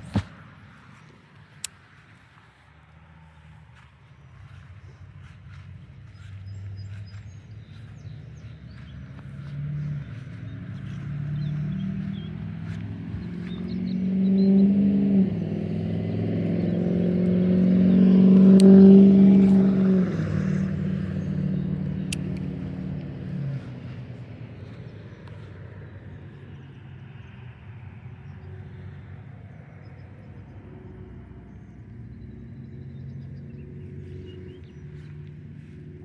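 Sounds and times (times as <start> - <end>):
vehicle engine passing by: 0.0 - 36.0.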